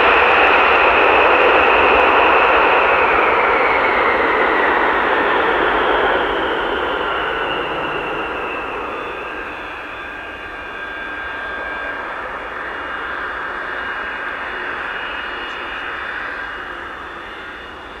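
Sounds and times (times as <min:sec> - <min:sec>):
jet engines roaring and whining: 0:00.0 - 0:18.0.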